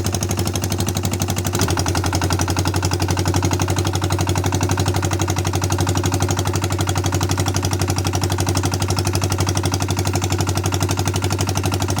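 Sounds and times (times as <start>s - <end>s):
tractor engine chugging: 0.0s - 12.0s.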